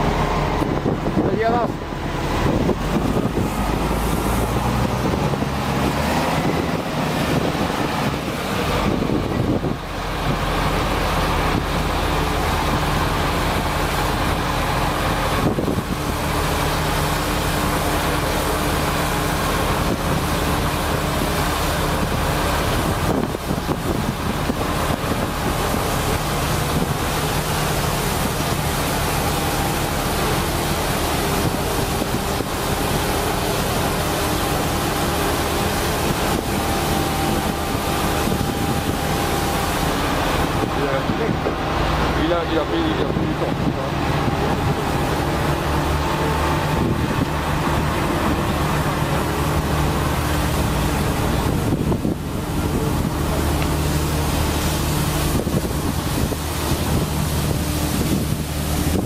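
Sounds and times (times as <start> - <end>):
constant rush of noise: 0.0 - 59.0
truck engine humming: 0.0 - 59.0.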